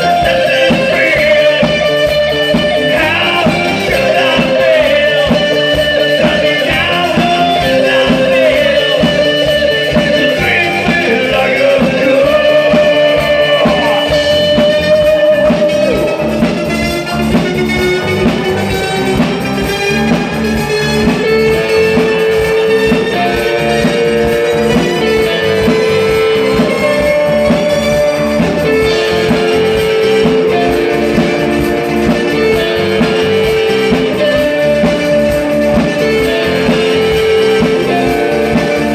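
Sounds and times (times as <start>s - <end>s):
live new wave band playing: 0.0s - 38.9s.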